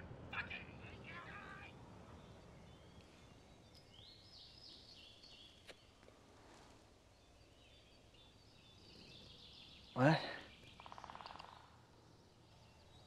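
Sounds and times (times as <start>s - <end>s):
faint bird chirps: 0.4s - 13.0s.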